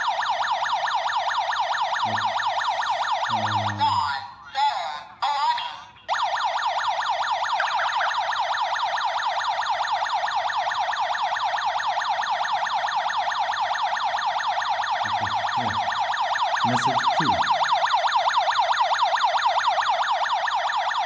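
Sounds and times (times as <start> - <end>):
alarm siren yelping: 0.0 - 21.0.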